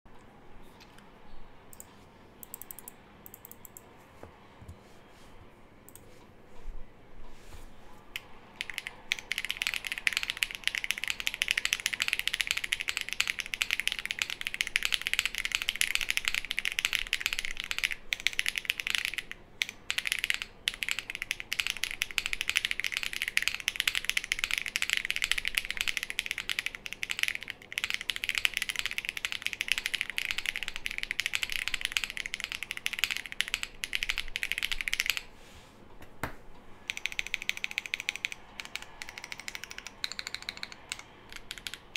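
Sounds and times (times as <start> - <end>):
mechanical keyboard typing: 1.7 - 3.8, 8.6 - 35.3, 36.9 - 41.9.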